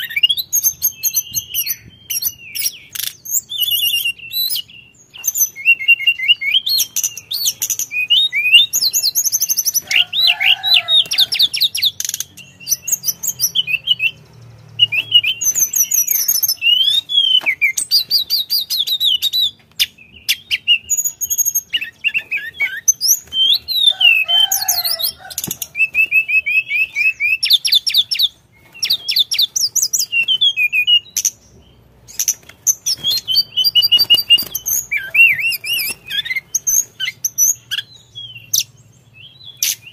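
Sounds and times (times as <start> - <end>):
bird trilling and warbling: 0.0 - 39.9.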